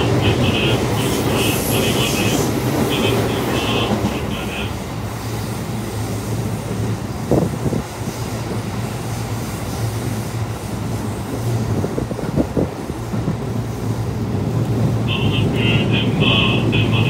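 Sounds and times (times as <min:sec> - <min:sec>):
train cabin hum and rumble: 0:00.0 - 0:17.0.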